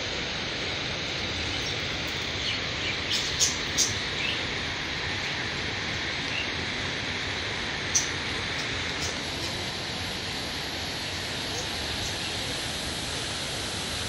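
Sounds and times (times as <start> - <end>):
stream running over stones: 0.0 - 14.0
waterfall rushing: 0.0 - 14.0.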